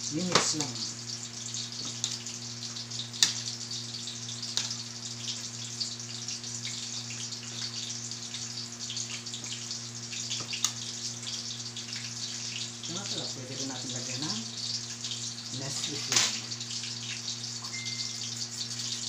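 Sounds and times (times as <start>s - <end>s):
chicken frying in hot oil: 0.0s - 19.0s.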